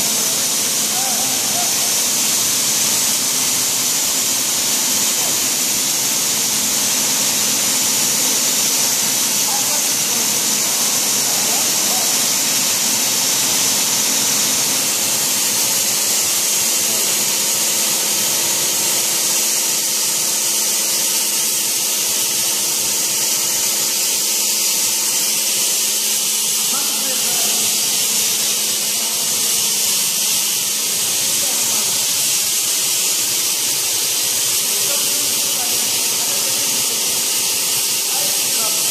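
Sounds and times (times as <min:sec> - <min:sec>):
plaster spray gun hissing: 0:00.0 - 0:38.9.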